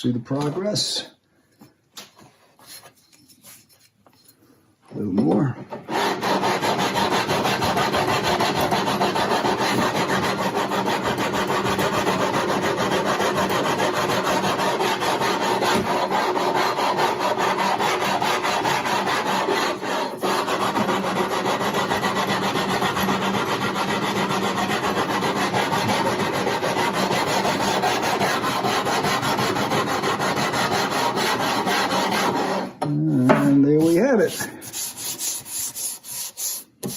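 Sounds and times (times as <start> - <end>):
sandpaper rasping on wood: 5.9 - 32.7, 33.4 - 36.9.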